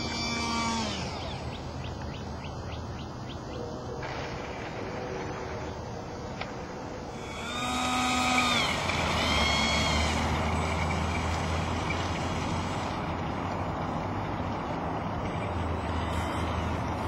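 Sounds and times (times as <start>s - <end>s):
electric ducted fan whine: 0.0s - 17.0s.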